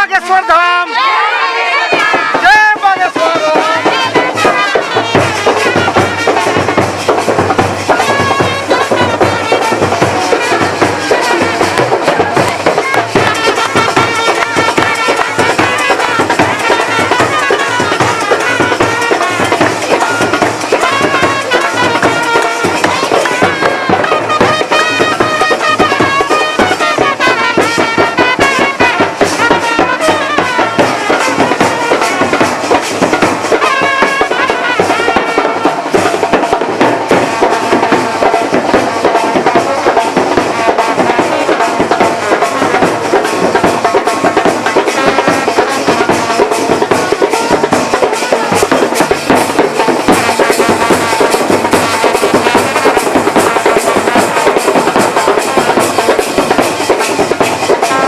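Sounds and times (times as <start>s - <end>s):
drums and percussion beat: 0.0s - 58.0s.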